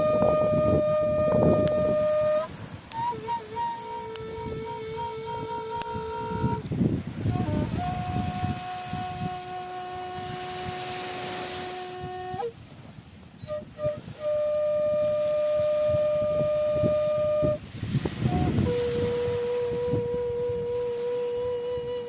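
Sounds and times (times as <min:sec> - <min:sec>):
bamboo flute long notes: 0:00.0 - 0:22.0
surf rushing: 0:00.0 - 0:22.0.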